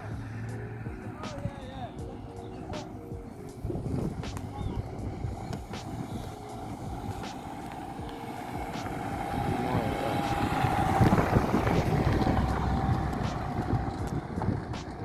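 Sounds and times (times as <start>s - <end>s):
car driving past: 0.0s - 15.0s.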